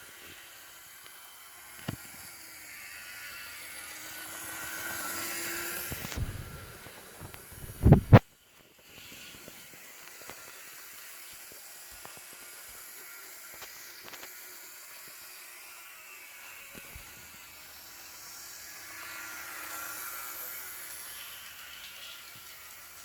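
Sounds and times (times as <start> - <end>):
faint motor whir: 0.0 - 23.0.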